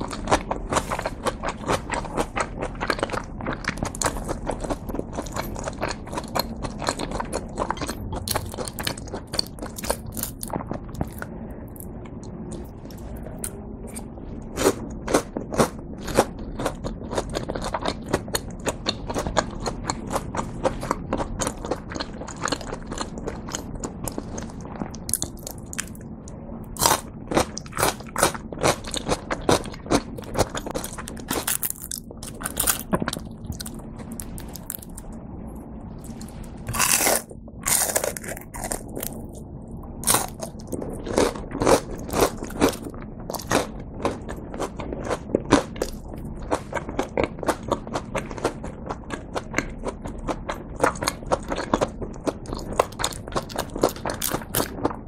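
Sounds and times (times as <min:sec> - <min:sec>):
crunchy chewing of fried food: 0:00.0 - 0:35.2, 0:35.8 - 0:55.0.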